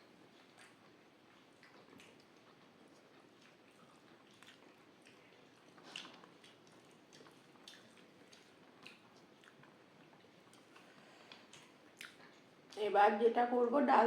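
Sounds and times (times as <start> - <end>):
person chewing with wet mouth clicks: 0.3 - 12.8.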